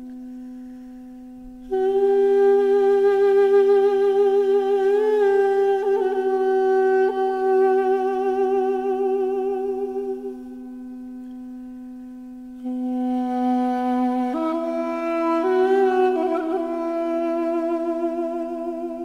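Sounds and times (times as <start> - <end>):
long held wavering note: 0.0 - 19.0.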